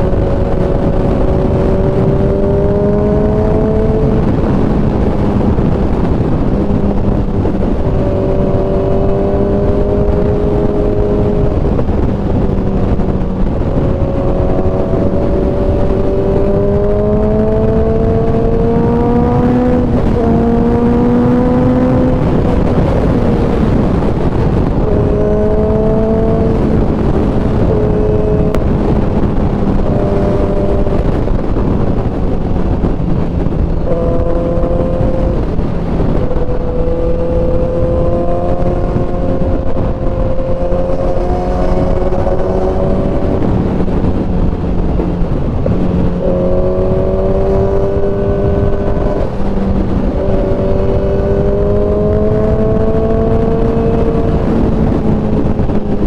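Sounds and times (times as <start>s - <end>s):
heavy wind rush: 0.0s - 56.0s
motorcycle engine revving: 0.0s - 56.0s.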